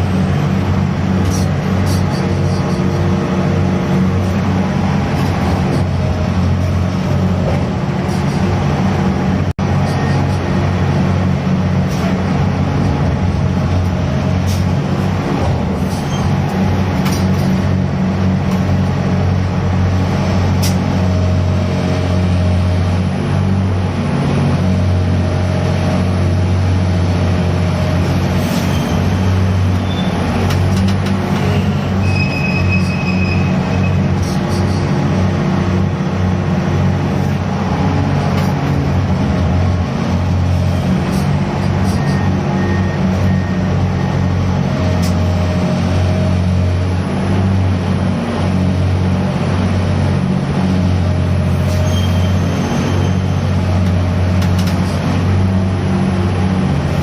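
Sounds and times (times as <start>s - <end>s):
diesel engine hum: 0.0s - 57.0s.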